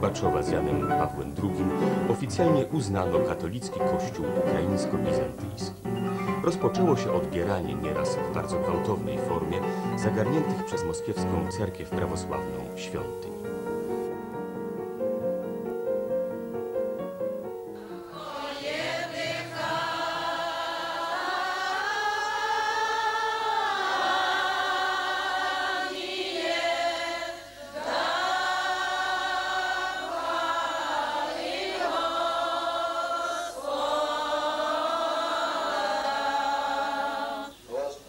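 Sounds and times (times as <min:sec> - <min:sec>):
congregation singing a hymn: 0:00.0 - 0:16.0, 0:17.7 - 0:38.0.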